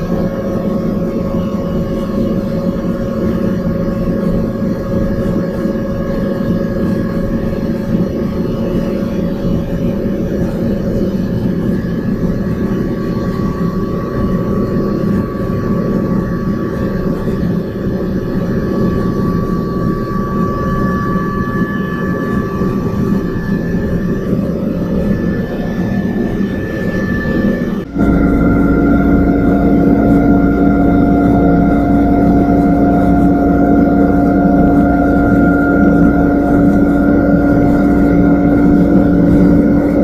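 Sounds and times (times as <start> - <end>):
steam turbine hum and whir: 0.0 - 40.0.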